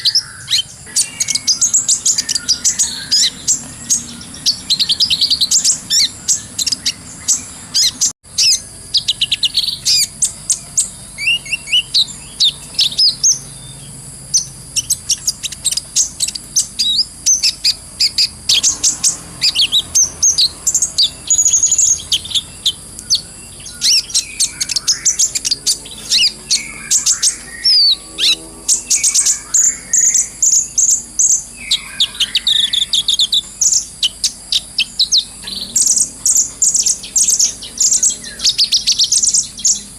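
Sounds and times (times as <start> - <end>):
sunbird singing rapid chirps: 0.0 - 39.9.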